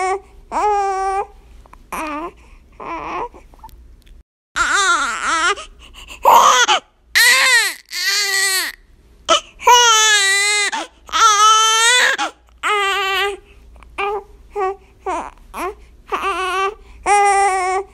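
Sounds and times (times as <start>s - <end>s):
infant crying: 0.0s - 1.3s, 1.9s - 3.5s, 4.6s - 13.4s, 14.0s - 17.9s.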